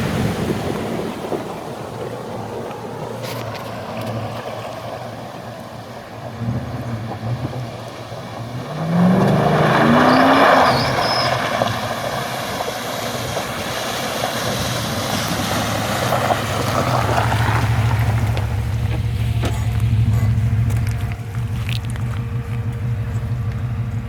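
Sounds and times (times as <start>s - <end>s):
water splashing and rushing: 0.0s - 24.0s
car engine revving: 0.1s - 24.0s.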